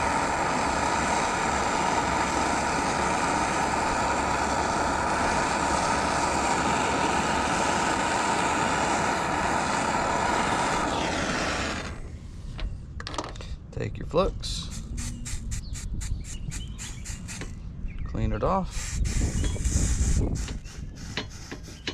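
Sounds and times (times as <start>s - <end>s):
gas torch roaring: 0.0s - 12.9s, 14.4s - 17.6s, 18.7s - 21.9s.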